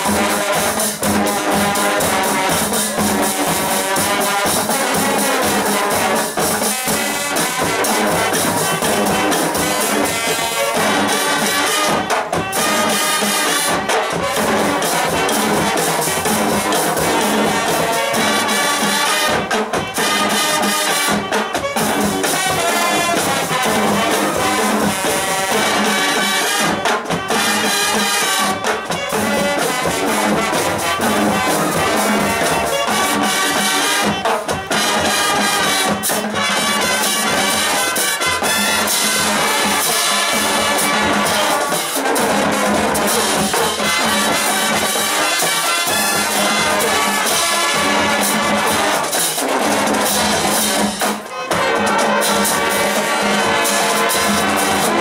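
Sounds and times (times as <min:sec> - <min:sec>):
marching band playing: 0:00.0 - 0:55.0.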